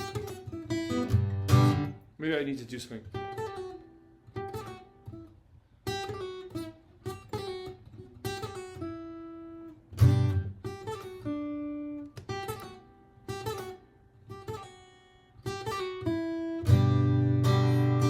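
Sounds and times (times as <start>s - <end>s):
fingerstyle acoustic guitar: 0.0s - 2.0s, 3.0s - 18.0s.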